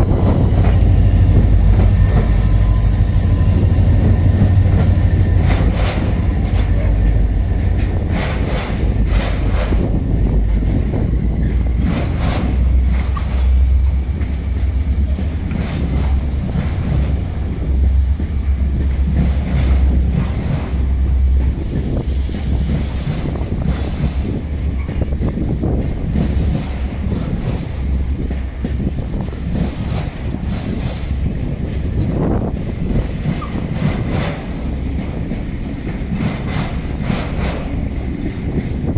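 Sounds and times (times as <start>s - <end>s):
freight train wagons rumbling: 0.0s - 38.9s
wheels clacking over rail joints: 0.0s - 38.9s.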